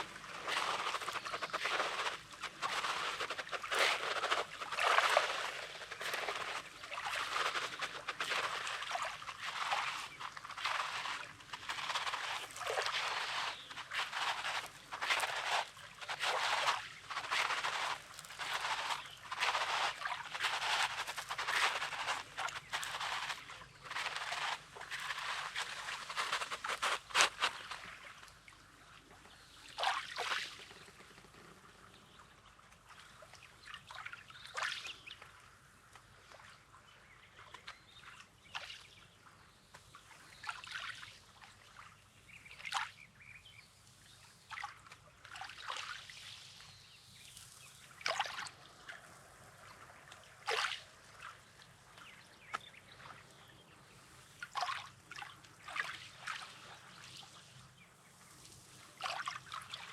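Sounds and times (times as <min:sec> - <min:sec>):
small waves lapping on shore: 0:00.0 - 0:59.9.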